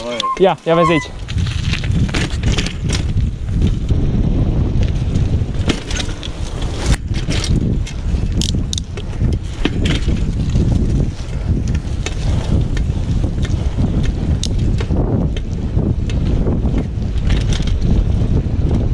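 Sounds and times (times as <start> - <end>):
bicycle rattling on pavement: 0.0 - 18.9
wind buffeting microphone: 0.0 - 18.9.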